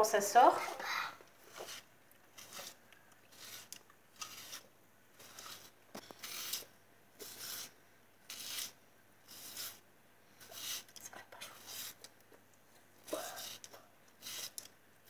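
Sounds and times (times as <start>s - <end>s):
spiral vegetable slicer scraping: 0.7s - 11.0s, 11.6s - 12.1s, 13.1s - 14.7s.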